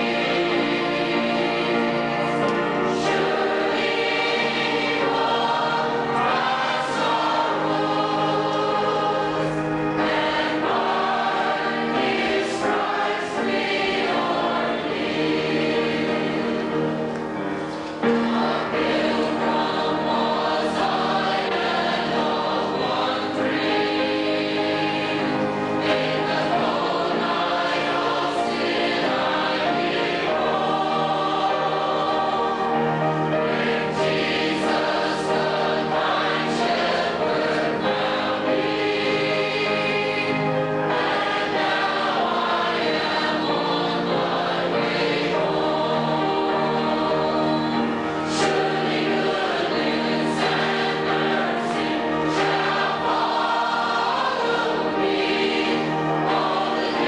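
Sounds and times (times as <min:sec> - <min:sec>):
choir singing a hymn: 0:00.0 - 0:57.0
organ: 0:00.0 - 0:57.0.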